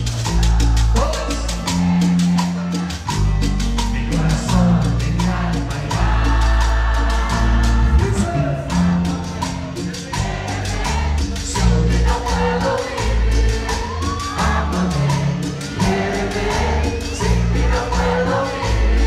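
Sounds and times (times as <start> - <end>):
bass line: 0.0 - 19.0
quick even percussion: 0.0 - 19.0
singing voices: 0.0 - 19.0.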